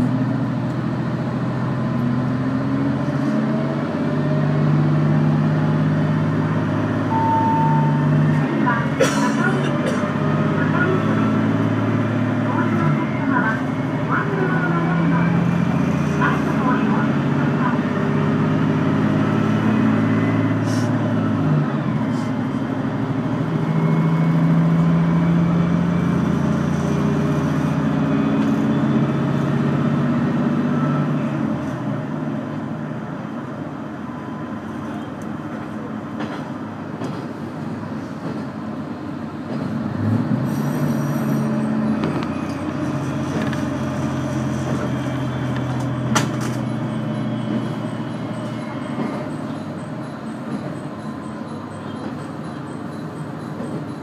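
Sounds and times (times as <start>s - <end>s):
railcar engine drone: 0.0s - 54.0s
wheel and rail noise: 9.9s - 54.0s.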